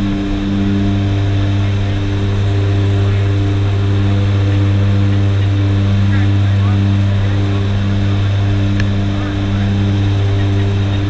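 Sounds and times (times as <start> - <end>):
propeller engines droning in cabin: 0.0 - 11.0.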